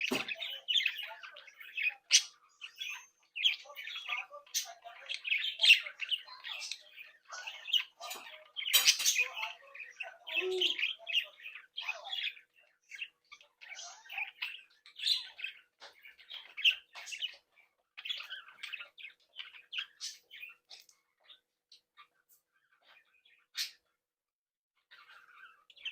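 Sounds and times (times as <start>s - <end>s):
budgerigars chirping and squawking: 0.0s - 24.0s, 24.8s - 25.9s.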